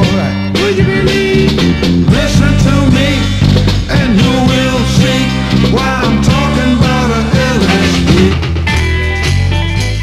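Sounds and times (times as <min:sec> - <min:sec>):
funk band on vinyl record: 0:00.0 - 0:10.0.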